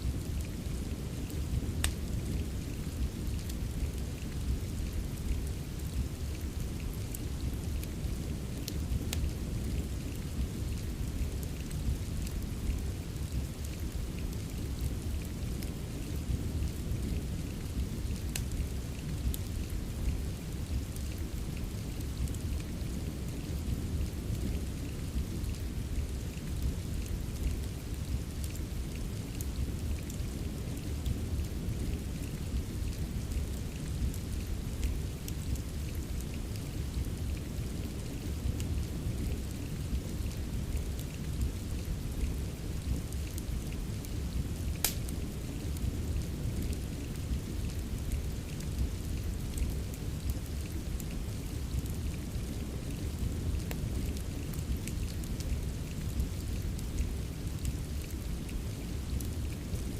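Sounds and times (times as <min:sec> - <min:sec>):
rain: 0:00.0 - 0:59.9
wood fire crackling: 0:00.0 - 0:59.9.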